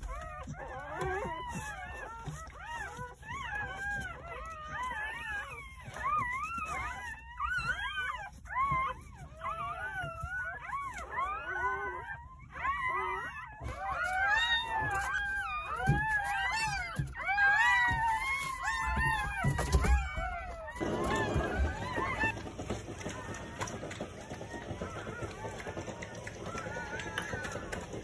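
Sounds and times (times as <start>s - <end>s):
puppies crying: 0.0s - 28.0s.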